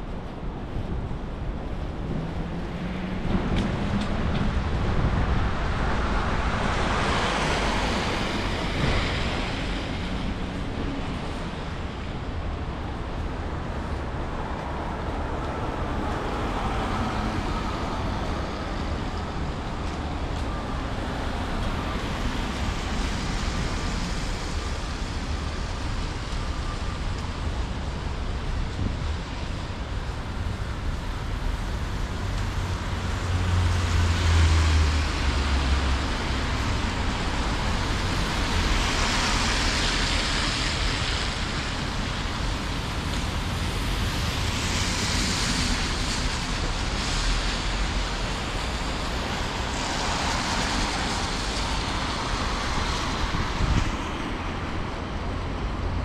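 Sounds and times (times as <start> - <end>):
passing cars road noise: 0.0 - 56.0.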